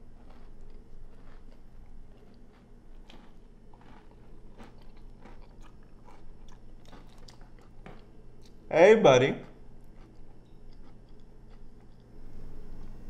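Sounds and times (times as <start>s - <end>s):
person chewing crunchy food: 0.0s - 8.7s, 9.4s - 13.0s.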